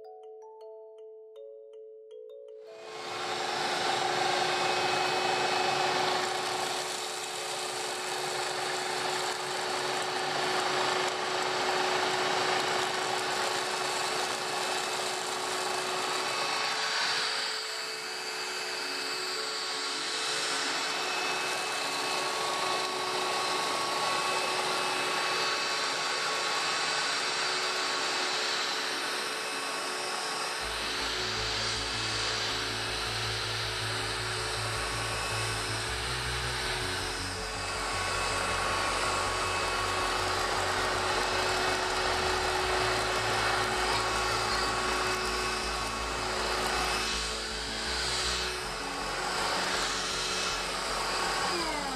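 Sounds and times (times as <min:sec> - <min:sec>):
stick vacuum cleaner running: 0:02.7 - 0:51.9.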